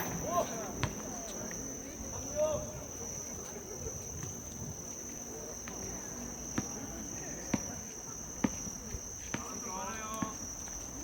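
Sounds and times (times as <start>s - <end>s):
crickets chirring: 0.0s - 11.0s
faint distant voices: 0.0s - 11.0s.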